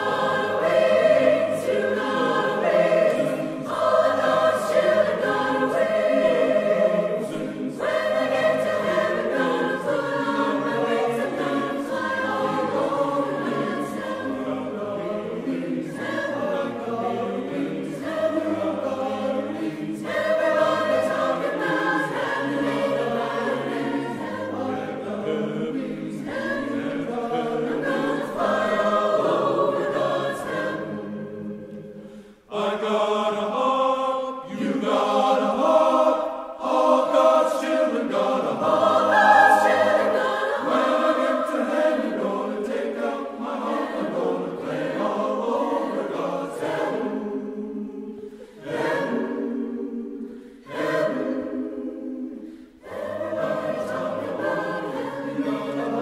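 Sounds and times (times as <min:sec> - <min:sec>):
large choir singing: 0:00.0 - 0:56.0.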